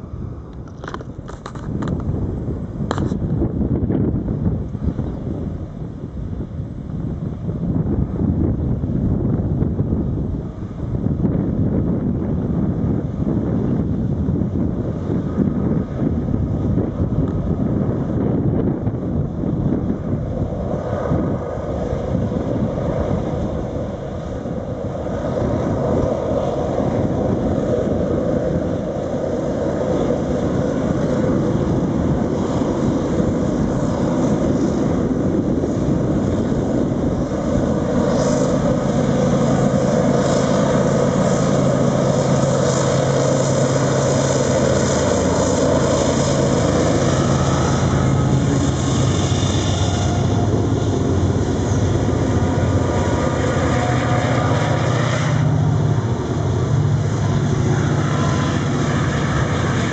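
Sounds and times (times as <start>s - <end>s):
diesel locomotives passing: 0.0s - 59.9s.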